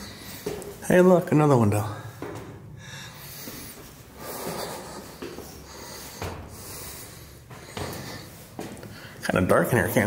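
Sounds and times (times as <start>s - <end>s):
man breathing hard: 0.0s - 0.8s, 1.9s - 9.2s.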